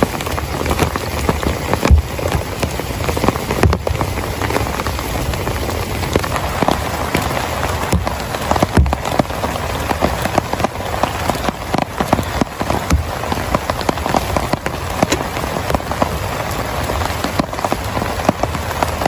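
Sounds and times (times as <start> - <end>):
heavy rain patter: 0.0 - 19.0.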